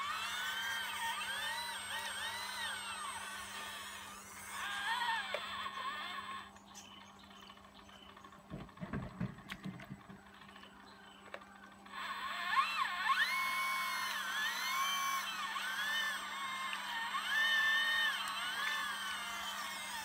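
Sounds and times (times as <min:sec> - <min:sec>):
pump motor whining: 0:00.0 - 0:20.0.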